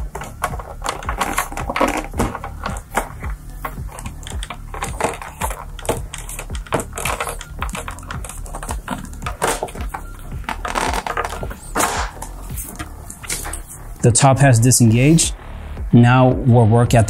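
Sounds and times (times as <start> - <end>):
plastic pins clicking: 0.0 - 13.7.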